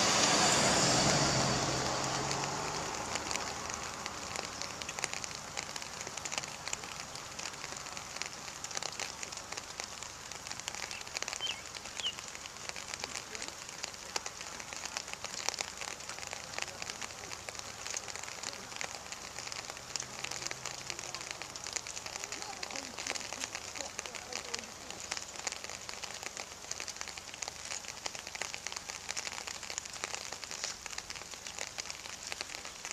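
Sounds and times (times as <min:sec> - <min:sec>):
rain pattering: 0:00.0 - 0:32.9.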